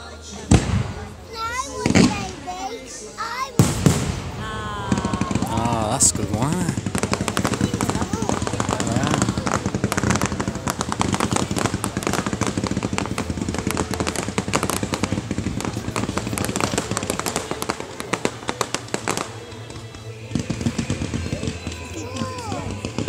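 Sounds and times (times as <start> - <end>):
fireworks crackling and banging: 0.0 - 23.0.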